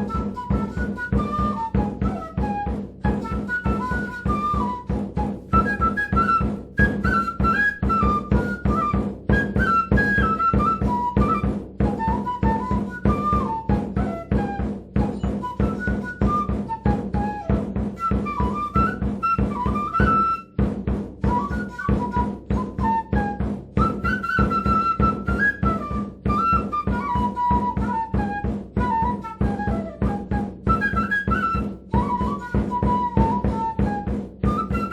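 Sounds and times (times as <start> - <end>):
high flute melody: 0.0 - 20.6, 21.2 - 34.9
fast even drumbeats: 0.0 - 34.9.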